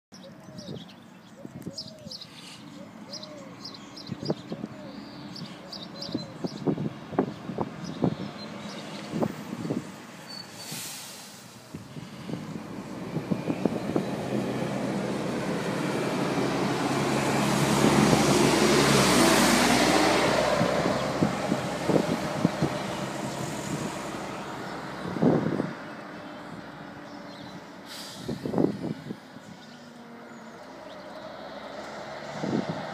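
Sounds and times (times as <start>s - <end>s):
bus driving past: 2.2s - 32.9s.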